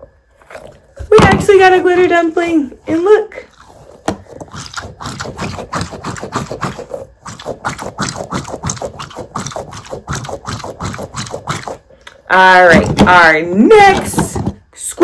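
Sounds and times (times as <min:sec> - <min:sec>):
squishy toy squelching: 0:00.3 - 0:13.2.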